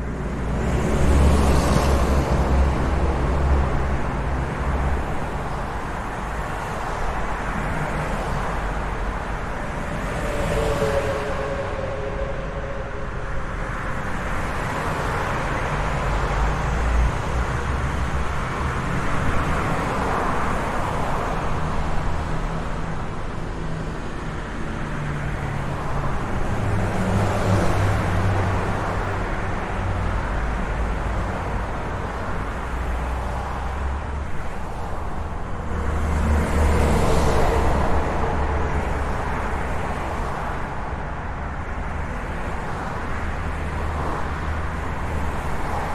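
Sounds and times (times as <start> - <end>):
traffic rumble: 0.0 - 45.9
vehicles passing close by: 0.0 - 45.9.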